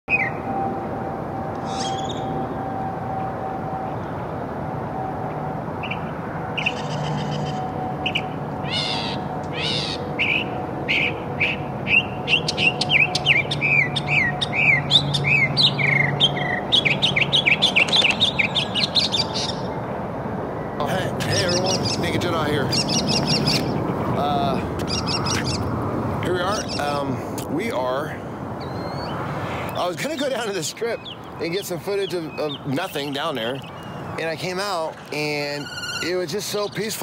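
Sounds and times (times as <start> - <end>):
mockingbird singing: 1.6 - 2.4, 5.8 - 19.8, 20.6 - 28.0, 28.6 - 37.0.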